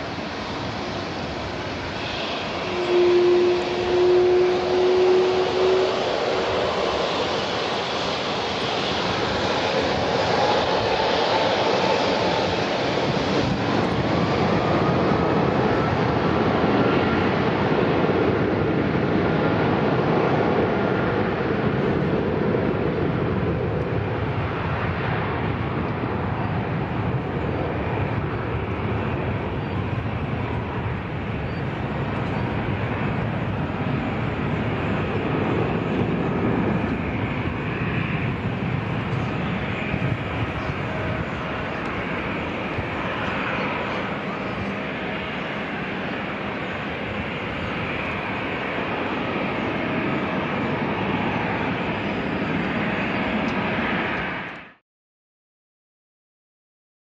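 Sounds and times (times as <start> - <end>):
jet engines spooling up with whine: 0.0 - 54.8.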